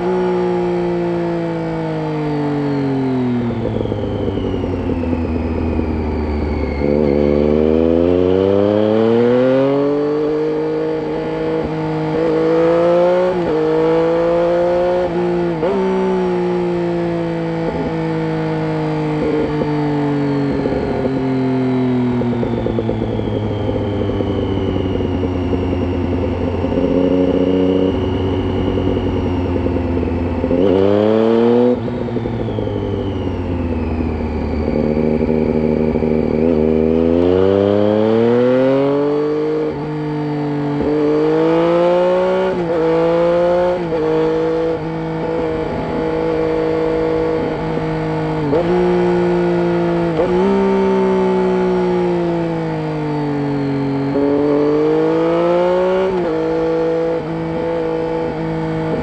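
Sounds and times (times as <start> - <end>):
motorcycle engine revving under load: 0.0 - 59.0.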